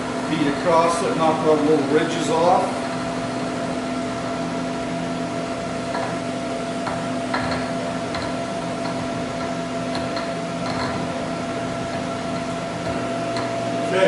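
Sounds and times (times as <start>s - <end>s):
milling machine humming: 0.0s - 14.0s.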